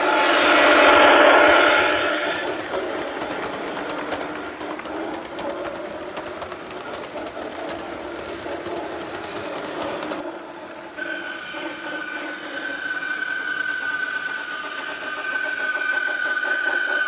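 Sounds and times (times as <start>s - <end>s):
model train wheels clicking: 0.0s - 16.9s
model train rumble: 0.0s - 17.0s.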